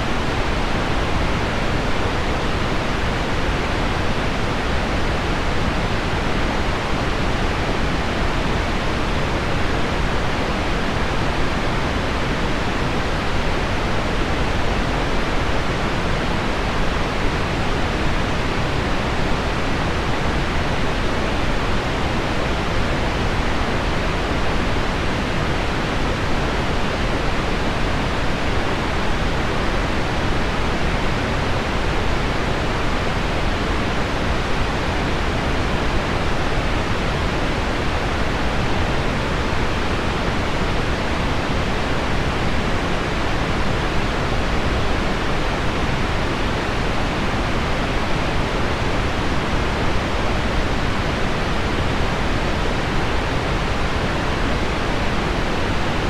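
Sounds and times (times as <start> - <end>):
low deep pink noise: 0.0 - 56.0.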